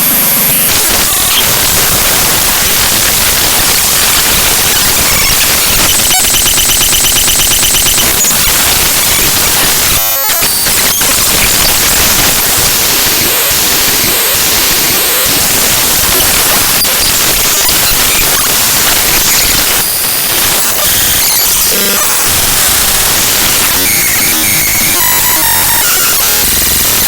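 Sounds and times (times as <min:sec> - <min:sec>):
fast repeating glitchy pattern: 0:00.0 - 0:27.0
harsh static-like noise: 0:00.0 - 0:27.0.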